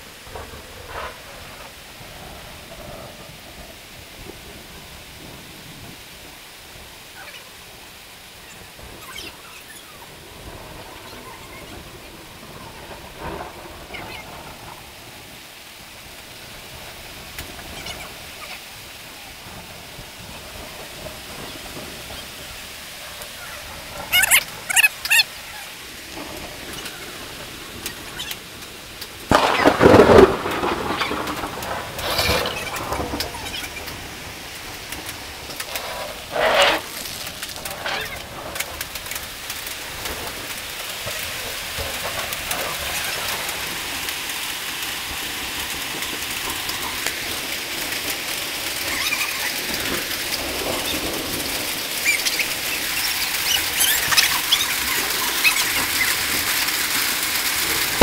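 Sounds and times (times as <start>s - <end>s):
hail and rain falling: 0.0s - 58.0s
loud hail bursts: 10.1s - 58.0s.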